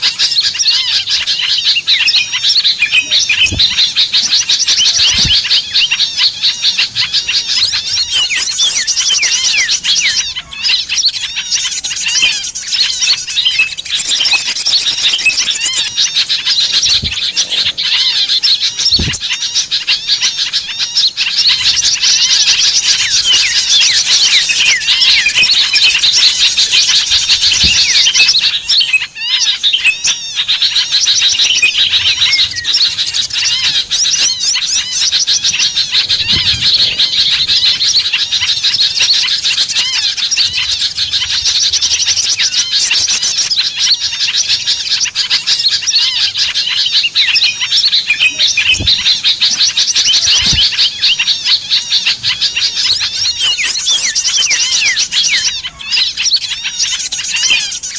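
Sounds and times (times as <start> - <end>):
songbirds chirping and twittering: 0.0 - 57.9.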